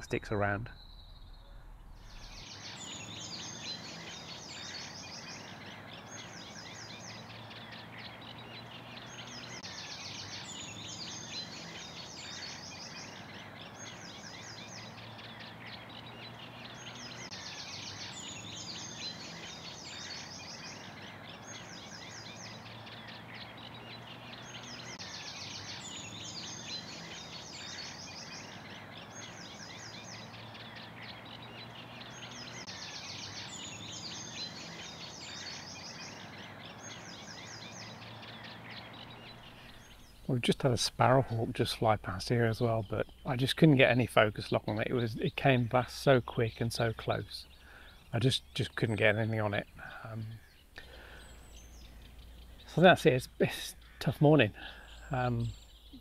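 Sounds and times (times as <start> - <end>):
birdsong with chattering phrases: 0.0 - 56.0.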